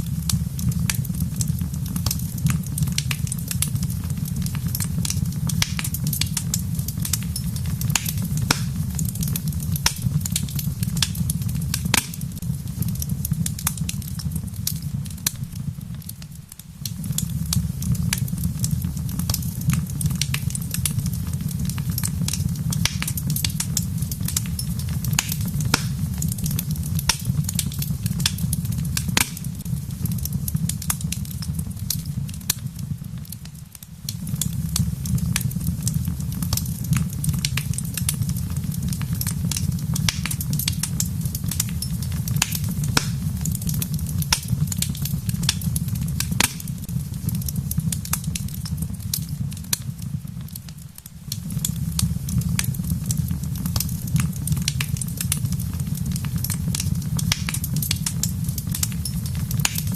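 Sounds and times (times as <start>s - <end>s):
low fire rumble: 0.0s - 59.9s
rain pattering: 0.0s - 59.9s
wood fire crackling and popping: 0.0s - 59.9s.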